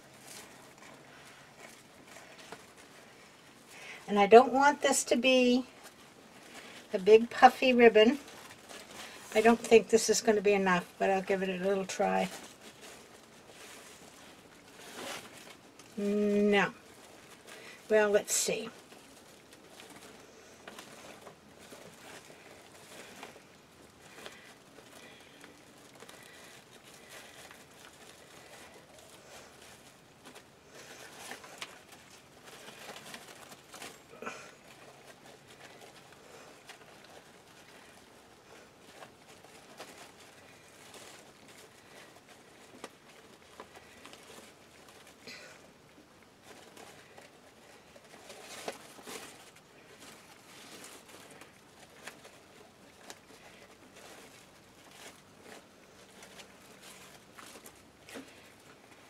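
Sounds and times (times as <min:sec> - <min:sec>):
ribbon rustling and crinkling: 0:00.0 - 0:59.0.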